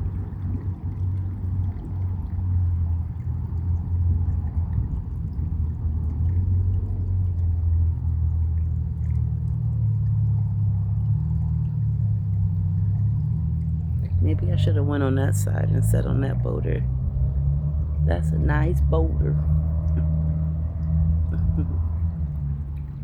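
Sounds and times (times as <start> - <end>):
running water rumbling: 0.0 - 23.0.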